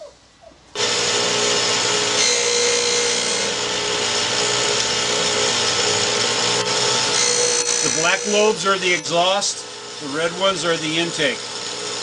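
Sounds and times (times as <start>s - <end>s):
grinding wheel grinding metal: 0.8s - 12.0s.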